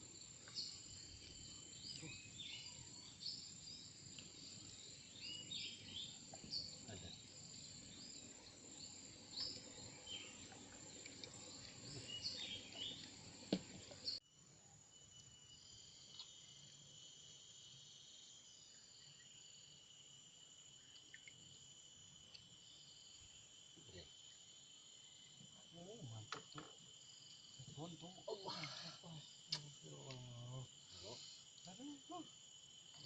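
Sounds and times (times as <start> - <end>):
choppy insect chirping calls: 0.0 - 33.0
insects chirping and buzzing: 0.0 - 33.0
quiet insect drone: 0.0 - 33.0.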